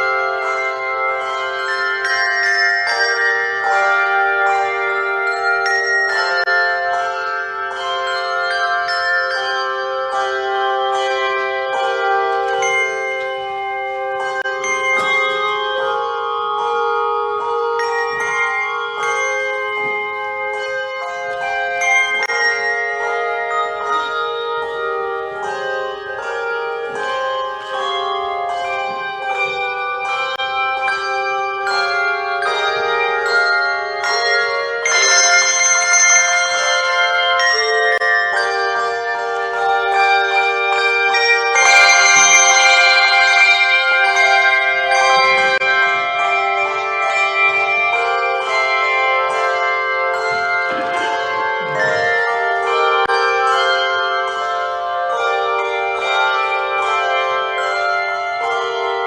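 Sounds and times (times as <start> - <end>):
handbell choir playing a hymn: 0.0 - 59.0.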